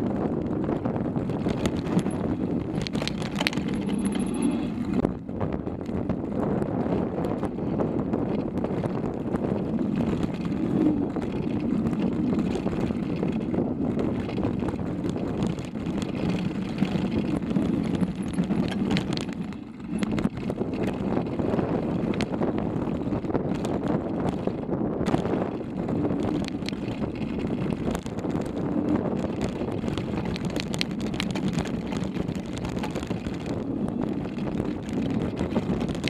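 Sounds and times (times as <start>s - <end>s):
bike rattling: 0.0s - 36.0s
bike tyres rolling over gravel: 0.0s - 36.0s
wind on microphone: 0.0s - 36.0s.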